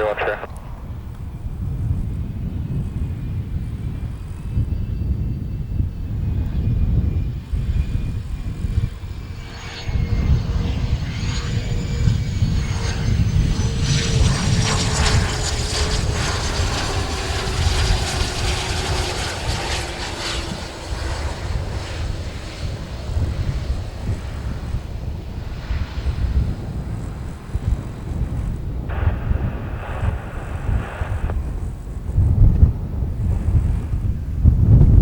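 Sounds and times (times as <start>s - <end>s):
heavy low rumble: 0.0s - 5.0s, 5.9s - 35.0s
jet engine whine passing: 0.0s - 35.0s.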